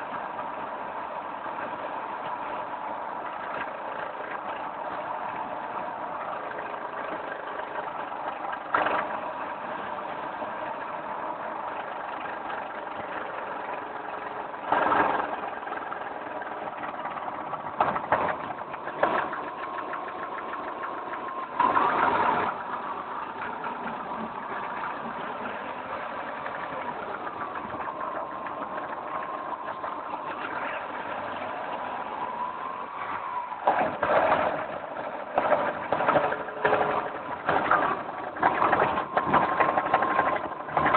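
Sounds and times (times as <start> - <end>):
car engine humming: 0.0 - 40.9.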